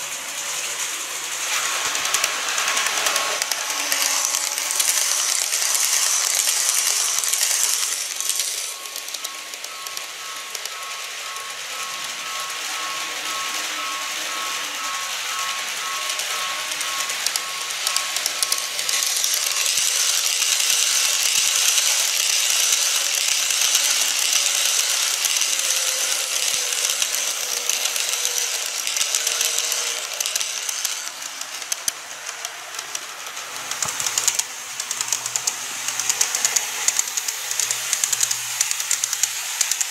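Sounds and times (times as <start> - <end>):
model train wheels rattling: 0.0 - 39.9.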